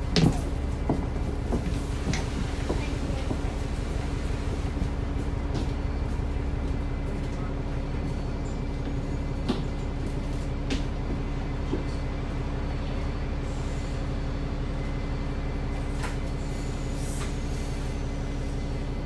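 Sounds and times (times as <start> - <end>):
bus engine hum: 0.0 - 19.0.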